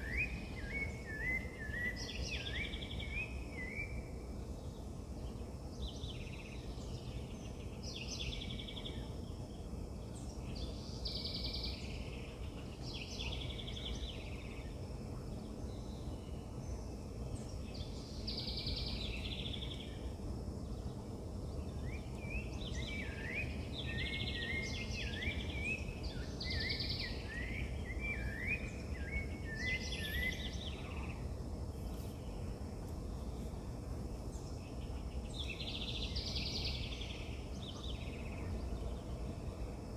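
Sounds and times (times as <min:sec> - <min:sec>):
low outdoor background noise: 0:00.0 - 0:39.9.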